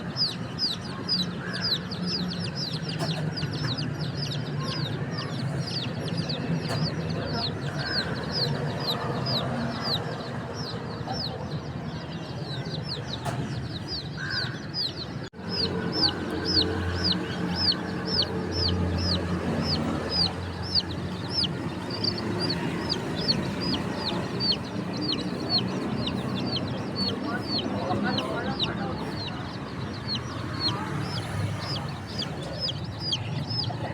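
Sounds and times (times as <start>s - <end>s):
baby chicks peeping: 0.0s - 33.9s.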